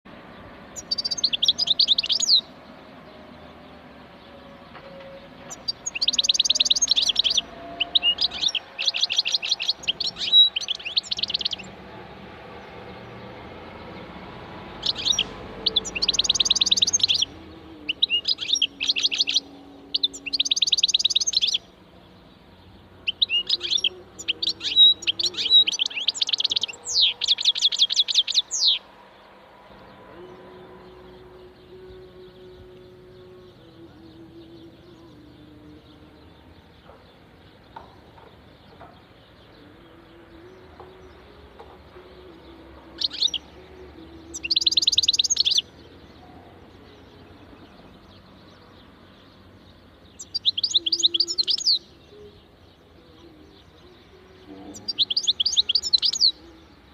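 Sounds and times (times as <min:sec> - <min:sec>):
goldfinch twittering song: 0:00.2 - 0:11.8, 0:12.6 - 0:28.9, 0:29.7 - 0:56.9.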